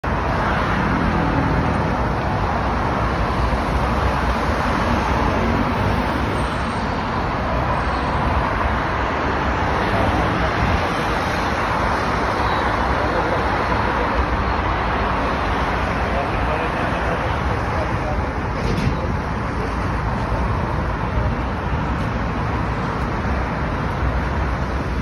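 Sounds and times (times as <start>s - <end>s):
highway traffic: 0.0s - 25.0s.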